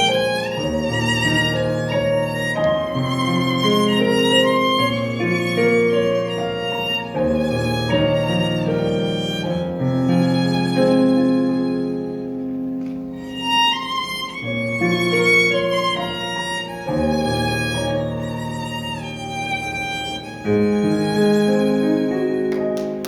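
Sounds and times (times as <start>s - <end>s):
violin melody with vibrato: 0.0s - 23.0s.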